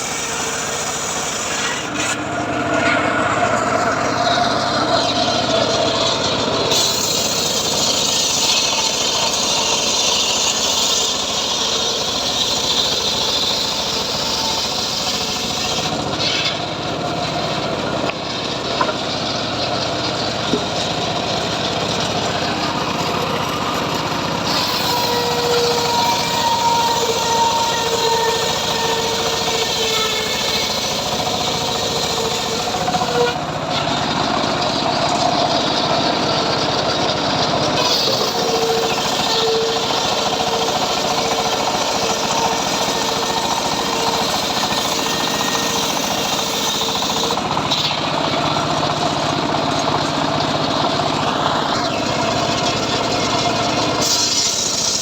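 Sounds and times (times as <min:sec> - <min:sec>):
engine-driven saw cutting wood: 0:00.0 - 0:55.0.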